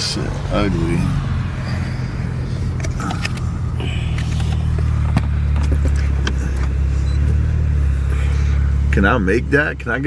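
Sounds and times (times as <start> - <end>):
car engine and road hum: 0.0 - 10.0.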